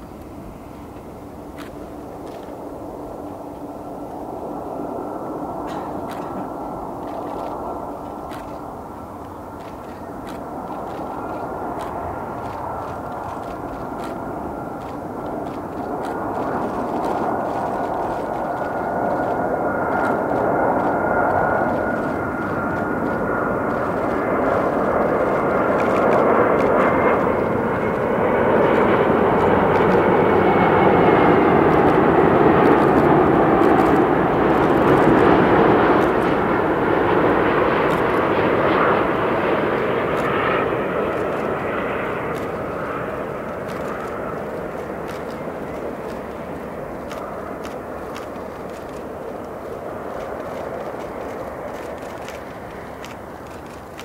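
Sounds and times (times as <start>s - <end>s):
jet airliner passing overhead: 0.0s - 54.0s.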